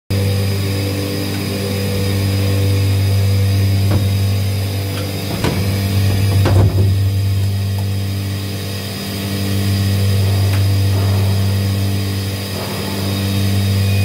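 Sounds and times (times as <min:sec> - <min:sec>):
machine humming with high whine: 0:00.1 - 0:14.0.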